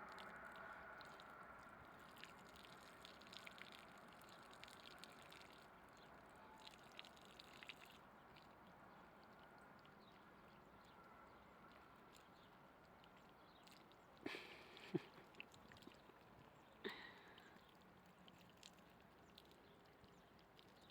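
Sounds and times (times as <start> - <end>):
water dripping and trickling: 0.0 - 20.9.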